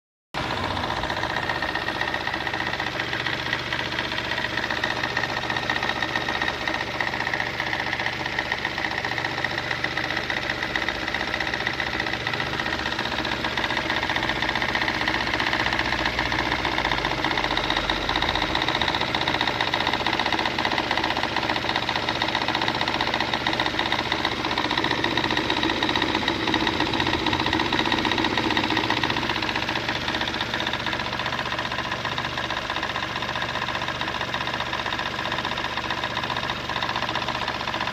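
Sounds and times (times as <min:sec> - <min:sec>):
car engine running: 0:00.4 - 0:37.9.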